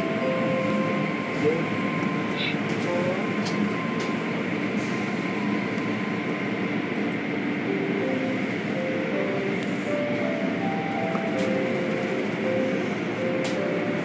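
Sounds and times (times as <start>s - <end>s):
rumble of spray and machinery: 0.0s - 14.0s.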